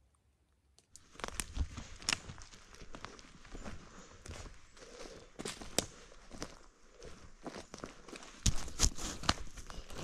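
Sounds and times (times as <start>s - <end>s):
footsteps on forest floor: 1.0s - 10.0s.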